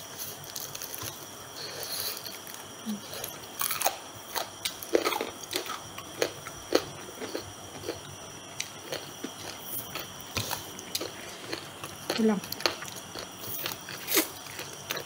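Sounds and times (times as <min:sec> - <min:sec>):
crunching and chewing fried food: 0:00.0 - 0:15.0.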